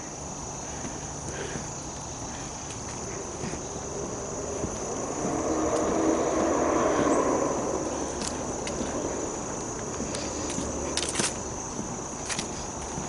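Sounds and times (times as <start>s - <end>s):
high insect trill: 0.0s - 13.0s
distant engine passing by: 2.4s - 13.0s.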